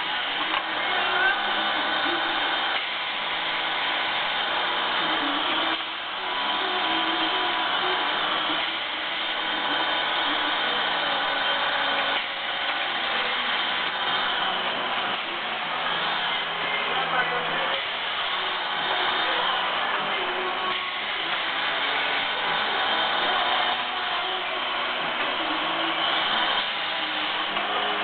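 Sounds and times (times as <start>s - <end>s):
press motor running with hiss: 0.0s - 28.0s.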